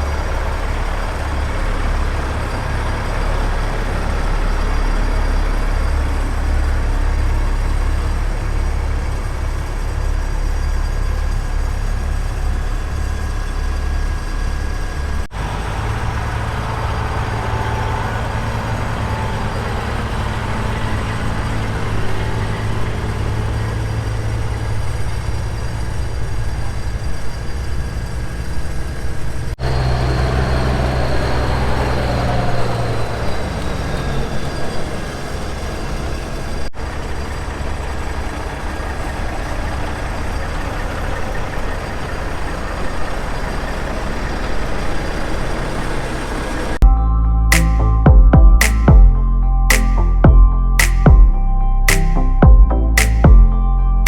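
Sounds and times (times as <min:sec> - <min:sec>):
truck engines humming: 0:00.0 - 0:54.0.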